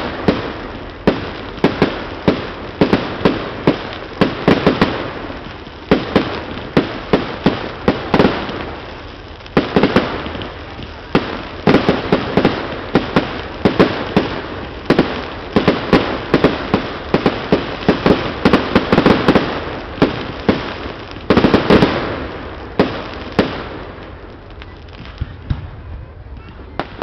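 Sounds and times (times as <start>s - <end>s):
fireworks bursting with bangs: 0.0s - 27.0s.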